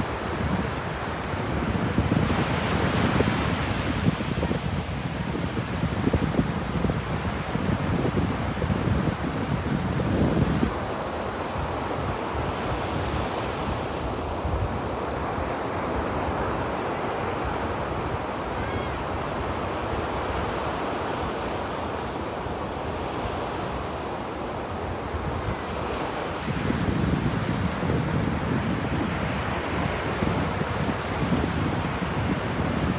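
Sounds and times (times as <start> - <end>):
ocean waves on beach: 0.0 - 32.9.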